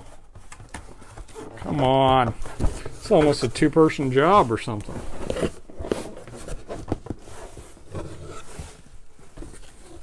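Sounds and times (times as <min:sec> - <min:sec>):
cardboard scraping and rustling: 0:00.0 - 0:10.0.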